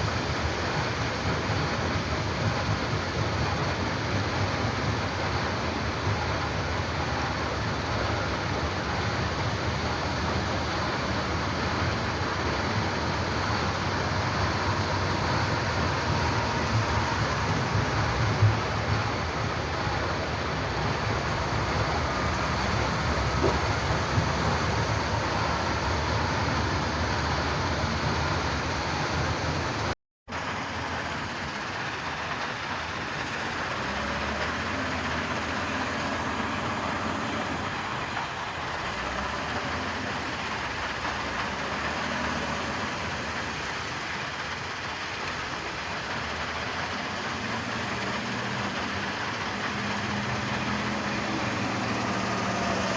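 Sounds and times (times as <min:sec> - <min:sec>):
diesel construction machinery rumble: 0:00.0 - 0:52.9.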